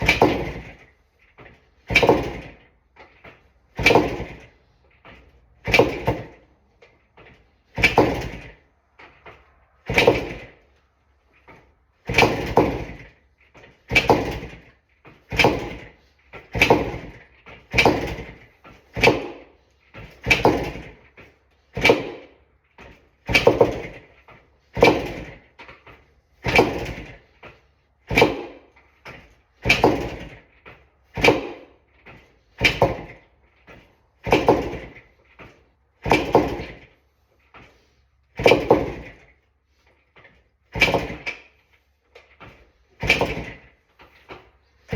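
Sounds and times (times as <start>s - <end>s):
motorcycle kickstart turning engine over: 0.0s - 6.5s, 7.2s - 27.4s, 28.0s - 37.0s, 38.3s - 39.4s, 40.2s - 41.6s, 42.2s - 44.9s.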